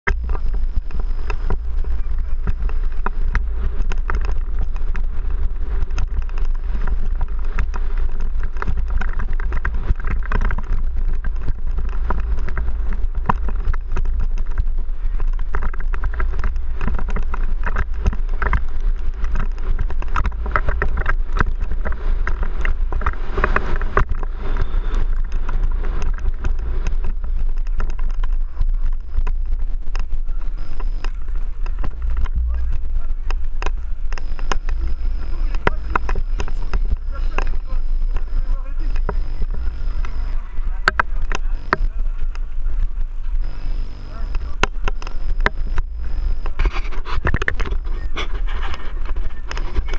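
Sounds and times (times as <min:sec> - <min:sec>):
wind rumbling on microphone: 0:00.0 - 0:49.9
bike rattling and knocking: 0:00.1 - 0:49.9.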